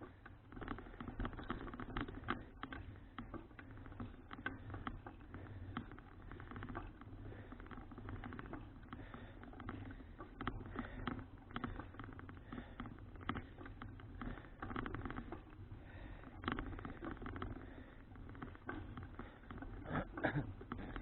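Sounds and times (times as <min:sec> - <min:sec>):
bicycle clicking and rattling: 0:00.0 - 0:21.0.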